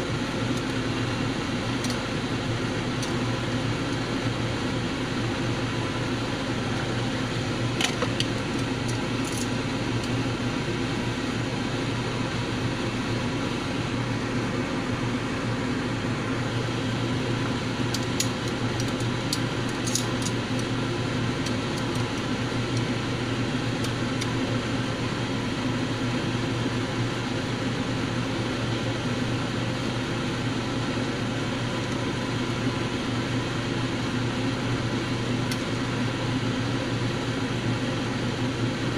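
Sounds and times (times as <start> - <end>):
boiling water: 0.0 - 37.2
gas stove hum and hiss: 0.0 - 38.9.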